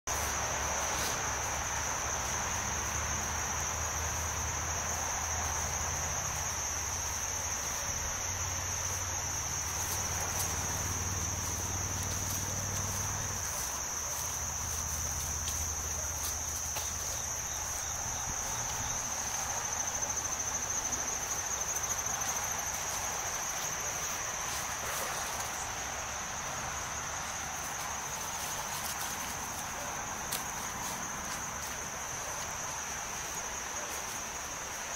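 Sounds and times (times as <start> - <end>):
insect chorus drone: 0.1 - 34.9.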